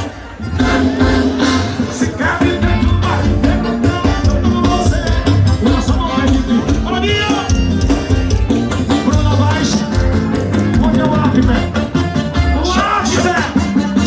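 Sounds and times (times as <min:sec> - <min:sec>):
live forro music: 0:00.0 - 0:14.0
man singing: 0:00.6 - 0:14.0
steady bass beat: 0:00.6 - 0:14.0.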